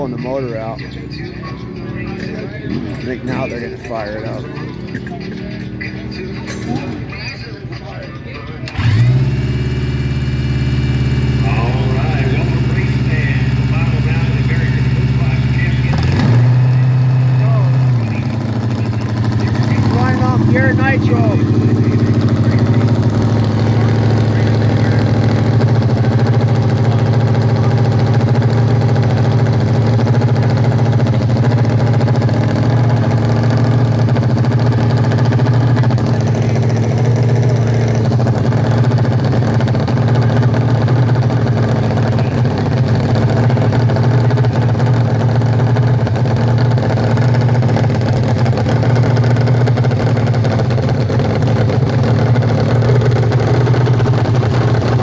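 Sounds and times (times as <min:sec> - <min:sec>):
motorcycle engine idling loudly: 0:00.0 - 0:08.0, 0:08.7 - 0:55.0.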